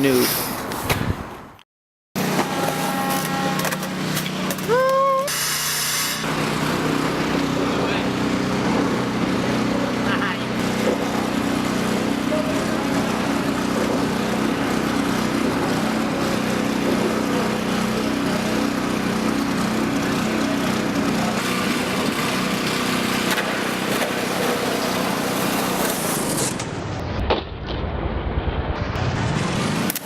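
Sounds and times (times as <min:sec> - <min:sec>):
small engine droning: 0:02.2 - 0:26.6.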